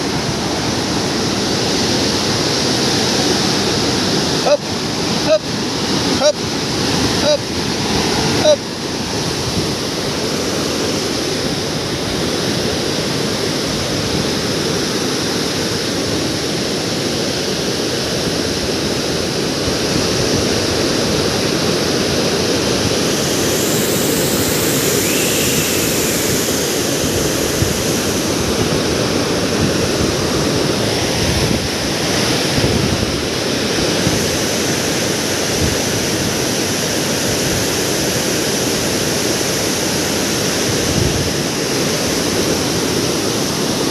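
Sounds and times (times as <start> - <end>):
water roaring down a spillway: 0.0 - 43.9.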